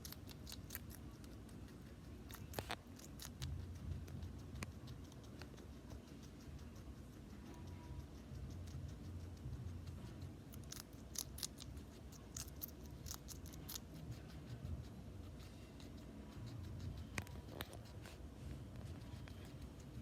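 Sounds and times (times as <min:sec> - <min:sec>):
pet crunching pepper: 0:00.0 - 0:20.0.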